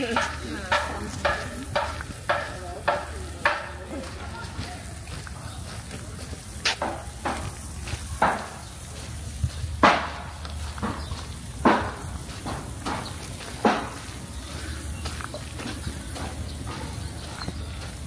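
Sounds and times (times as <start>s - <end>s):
footsteps crunching: 0.0s - 18.0s.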